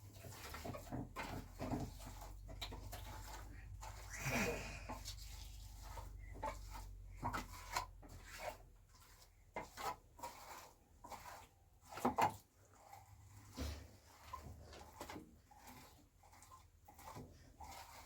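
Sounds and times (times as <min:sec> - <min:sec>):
light knocks and scrapes: 0:00.0 - 0:18.0.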